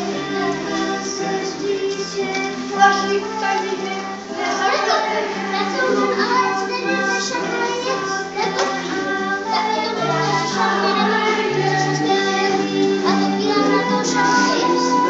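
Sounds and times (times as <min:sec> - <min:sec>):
children's song with instrumental backing: 0:00.0 - 0:15.0.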